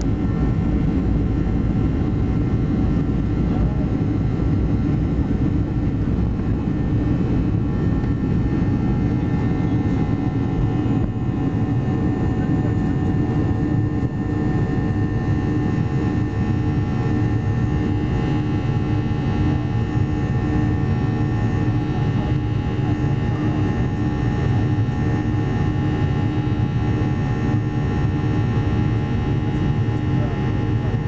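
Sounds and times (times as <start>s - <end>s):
airliner cabin engine rumble: 0.0s - 31.0s
steady engine whine: 0.0s - 31.0s.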